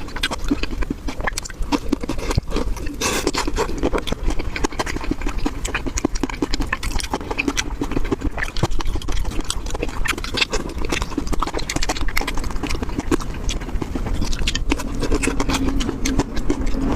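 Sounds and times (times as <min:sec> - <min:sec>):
wet chewing smacks: 0:00.0 - 0:16.9.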